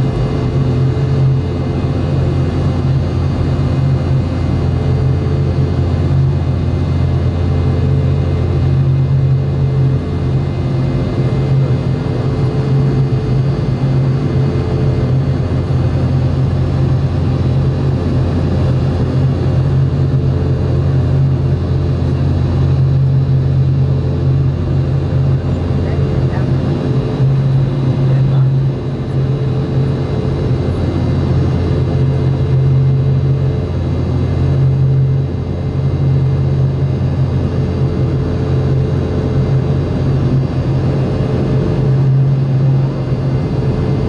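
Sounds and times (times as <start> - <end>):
jet cabin engine hum: 0.0 - 44.0.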